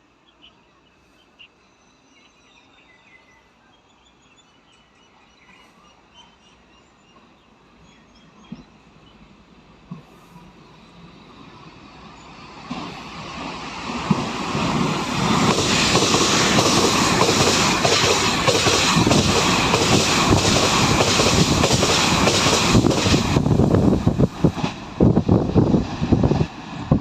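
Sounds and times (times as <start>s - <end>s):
train passing close by: 0.0s - 27.0s.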